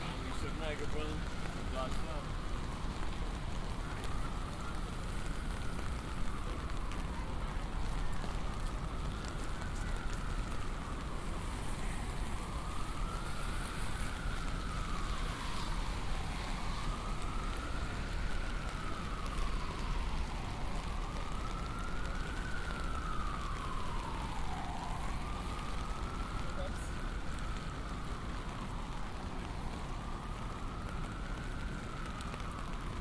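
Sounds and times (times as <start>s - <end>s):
emergency siren wailing: 0.0s - 33.0s
steady rain: 0.0s - 33.0s
street noise: 0.0s - 33.0s.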